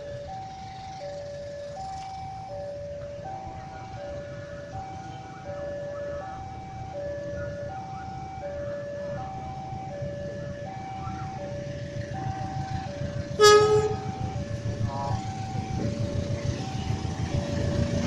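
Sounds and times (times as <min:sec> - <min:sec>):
low vehicle rumble: 0:00.1 - 0:18.0.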